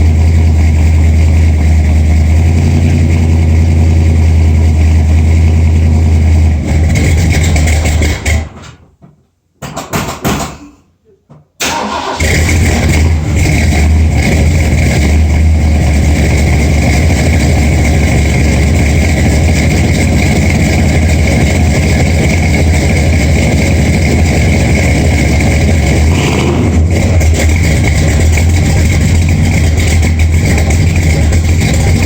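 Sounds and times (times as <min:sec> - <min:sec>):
engine idling with exhaust rumble: 0:00.0 - 0:08.6, 0:12.2 - 0:32.0.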